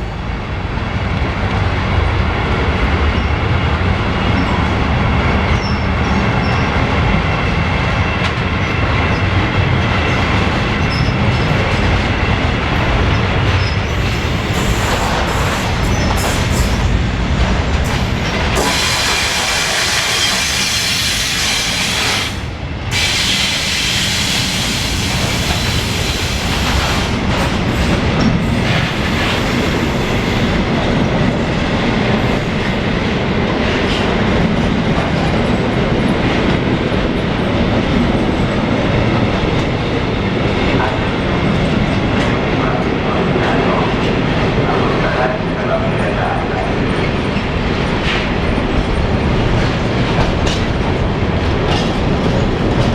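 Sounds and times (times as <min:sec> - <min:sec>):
freight train passing: 0:00.0 - 0:52.9.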